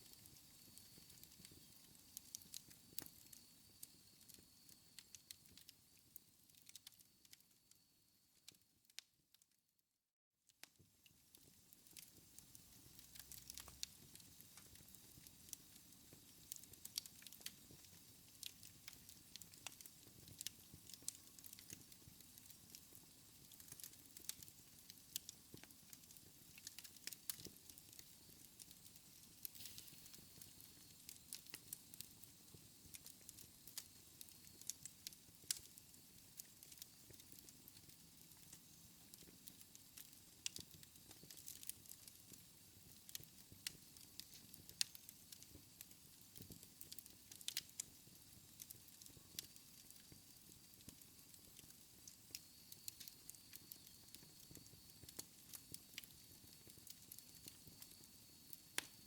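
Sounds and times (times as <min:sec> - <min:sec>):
wood fire crackling: 0:00.0 - 0:07.8, 0:10.6 - 0:59.0.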